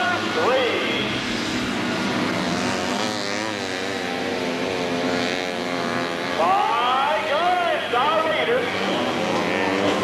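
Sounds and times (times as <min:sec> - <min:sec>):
off-road buggy engines racing: 0:00.0 - 0:10.0.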